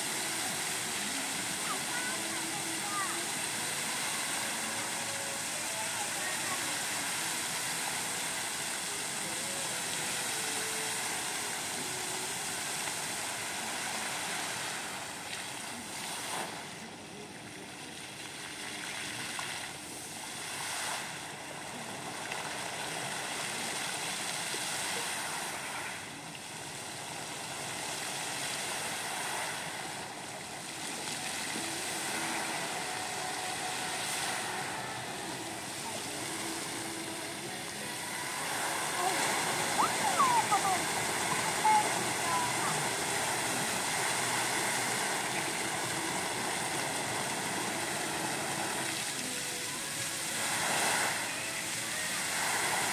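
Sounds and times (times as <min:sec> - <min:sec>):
fountain jets spraying and splashing: 0:00.0 - 0:52.9.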